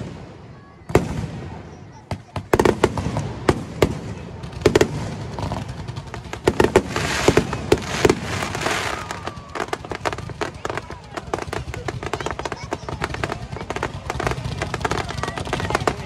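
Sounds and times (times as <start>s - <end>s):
fireworks bangs: 0.0s - 16.0s
fireworks crackling hiss: 0.0s - 16.0s.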